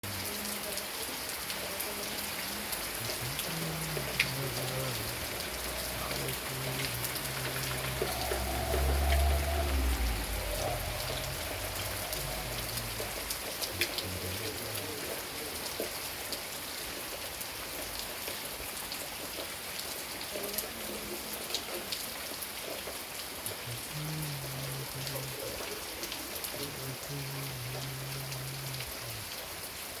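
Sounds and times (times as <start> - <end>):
rain drops on a hard surface: 0.0 - 30.0.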